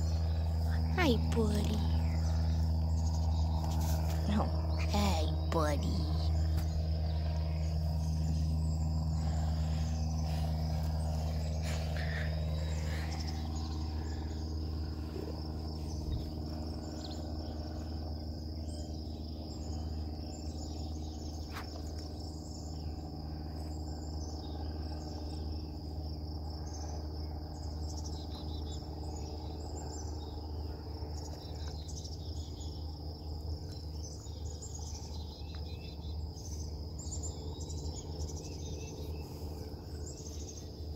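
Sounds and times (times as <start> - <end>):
birds chirping: 0.0 - 40.9
insect chorus trilling: 0.0 - 40.9
low hum: 0.0 - 40.9.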